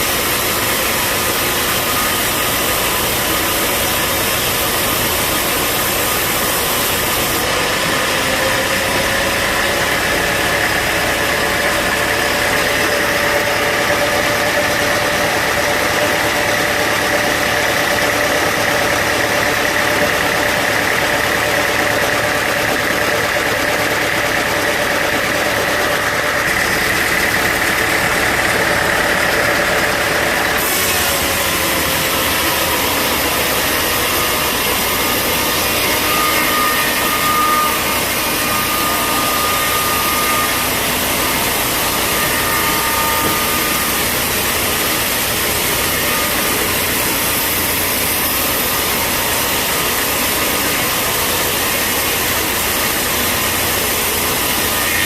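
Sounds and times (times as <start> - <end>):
bandsaw whining cutting log: 0.0 - 55.0.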